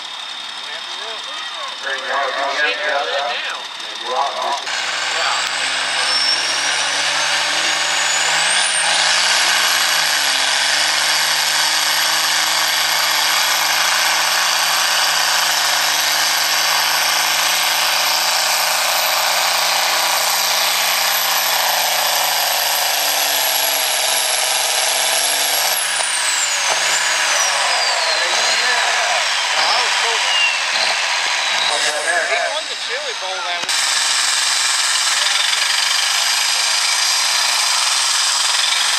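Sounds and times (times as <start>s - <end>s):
high engine whine: 0.0s - 38.9s
tractor diesel engine under load: 0.0s - 38.9s.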